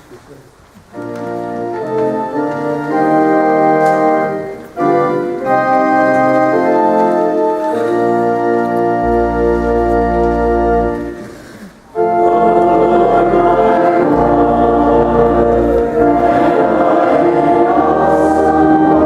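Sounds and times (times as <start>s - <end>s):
organ playing chords: 0.9s - 19.0s.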